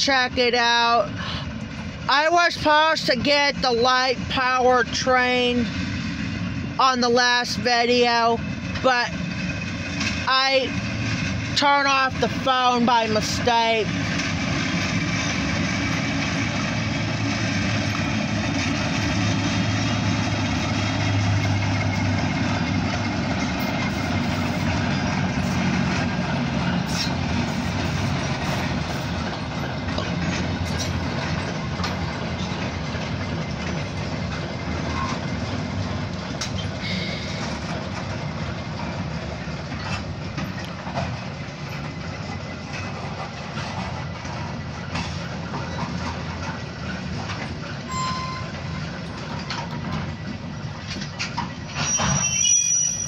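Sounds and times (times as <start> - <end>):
diesel locomotive engine rumble: 0.0 - 53.0
railcars rolling by: 0.0 - 53.0
train wheel clicks: 8.6 - 52.4.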